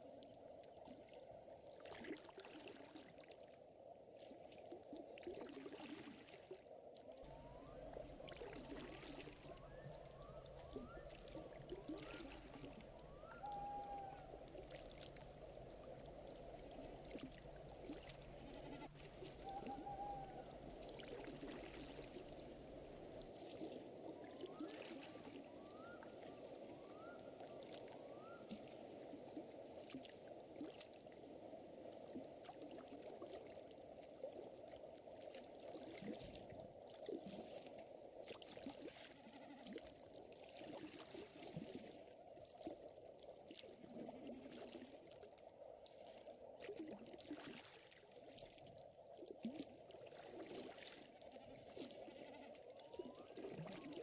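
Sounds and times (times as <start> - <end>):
water trickling and lapping: 0.0 - 54.0.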